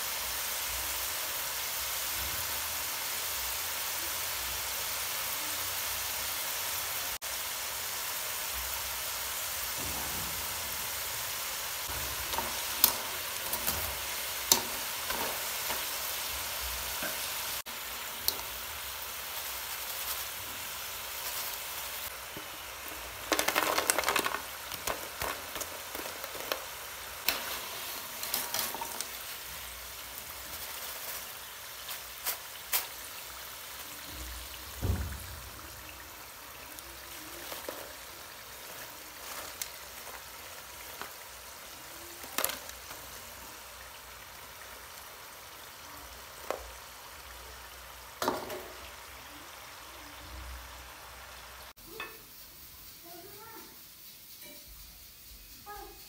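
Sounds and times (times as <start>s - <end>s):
fries sizzling in hot oil: 0.0s - 56.0s.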